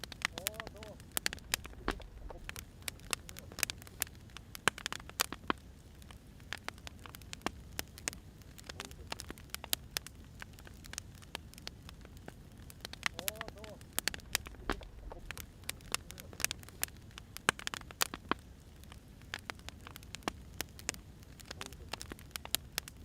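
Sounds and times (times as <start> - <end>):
firewood crackling and popping: 0.0 - 23.0
low rumble of fire: 0.0 - 23.0.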